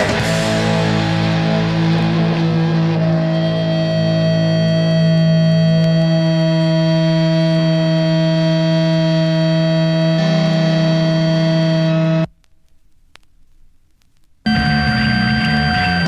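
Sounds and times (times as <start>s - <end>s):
distorted electric guitar feedback: 0.0s - 12.3s, 14.5s - 16.0s.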